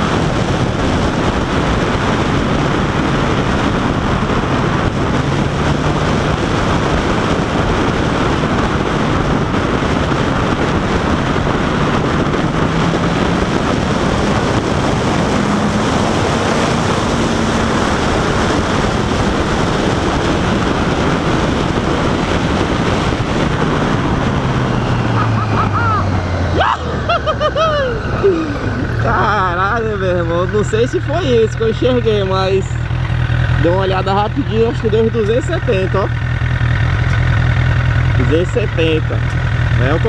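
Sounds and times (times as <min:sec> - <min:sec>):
motorcycle engine running: 0:00.0 - 0:40.0
wind rushing over microphone: 0:00.0 - 0:40.0.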